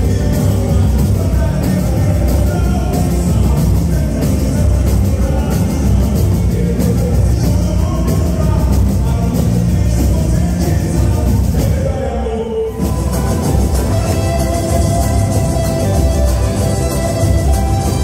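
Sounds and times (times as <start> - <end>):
heavy drum beat: 0.0 - 12.1, 12.8 - 18.0
person singing: 0.0 - 18.0.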